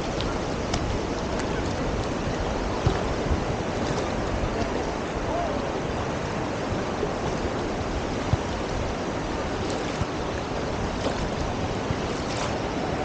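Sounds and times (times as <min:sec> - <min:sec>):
surf washing on shore: 0:00.0 - 0:13.0.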